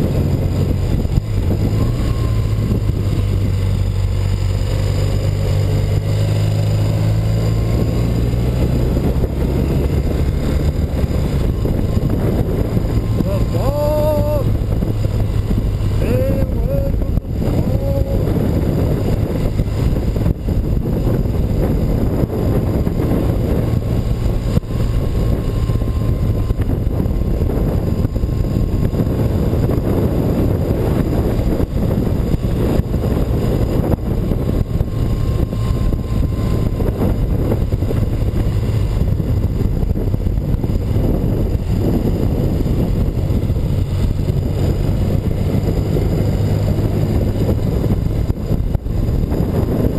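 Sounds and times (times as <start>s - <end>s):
motorcycle engine running: 0.0s - 49.9s
wind rushing over microphone: 0.0s - 49.9s.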